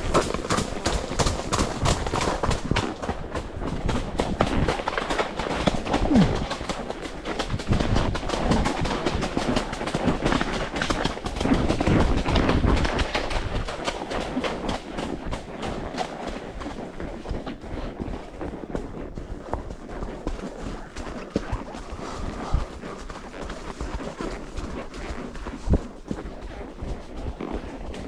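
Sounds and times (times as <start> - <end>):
horse hoofbeats: 0.0 - 28.0.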